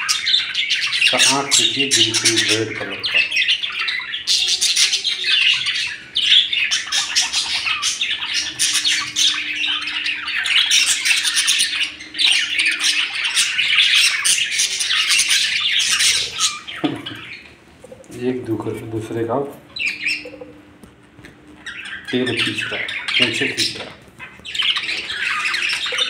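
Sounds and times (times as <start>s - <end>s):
budgies chirping and chattering: 0.0s - 26.0s.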